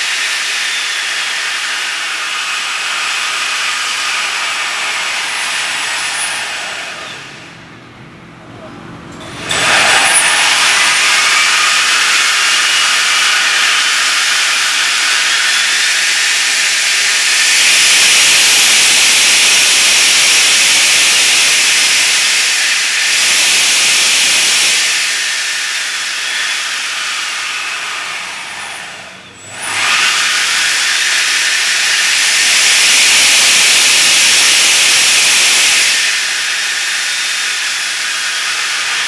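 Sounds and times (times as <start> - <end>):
electric ducted fan running: 0.0 - 39.0.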